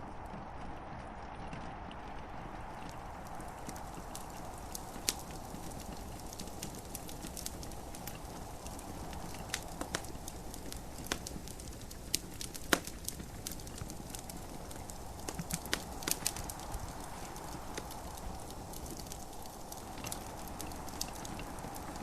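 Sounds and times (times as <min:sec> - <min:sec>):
gentle rain hiss: 0:00.0 - 0:22.0
wood fire crackling: 0:00.0 - 0:22.0.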